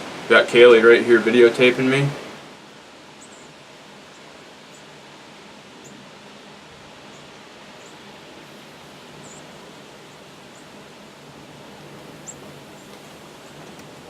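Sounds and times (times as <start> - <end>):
rain: 0.0 - 14.0
wind: 0.0 - 14.0.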